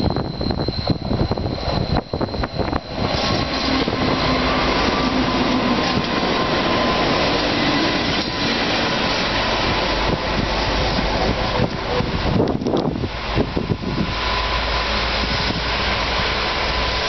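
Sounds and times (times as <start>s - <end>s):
wind buffeting microphone: 0.0s - 16.2s
locomotives passing: 0.0s - 17.0s.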